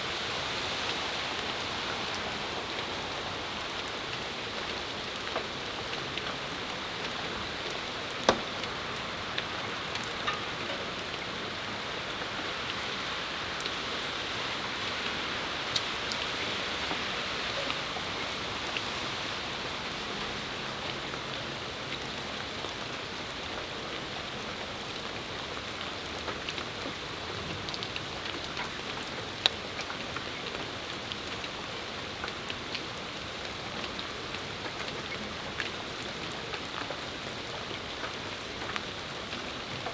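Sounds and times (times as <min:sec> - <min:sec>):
steady rain hiss: 0:00.0 - 0:39.9
raindrops ticking close by: 0:00.1 - 0:39.9.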